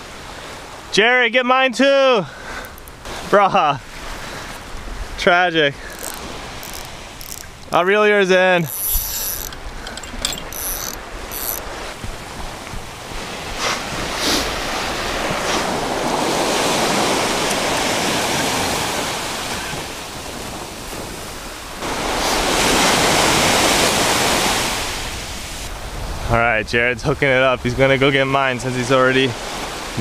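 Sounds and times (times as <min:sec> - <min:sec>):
small waves breaking on beach: 0:00.0 - 0:09.9, 0:10.5 - 0:26.4, 0:28.0 - 0:30.0.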